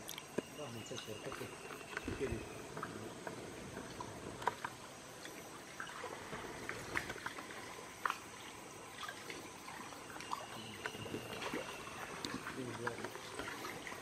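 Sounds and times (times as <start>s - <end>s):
creek water splashing: 0.0s - 14.0s.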